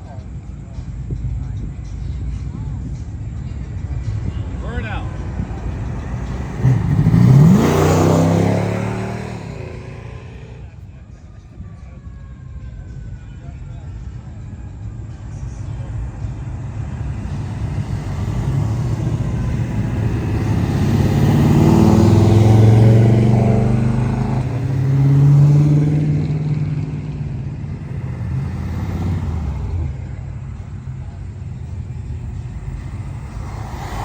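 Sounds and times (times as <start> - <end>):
car engine driving by: 2.9 - 11.0, 14.6 - 34.0.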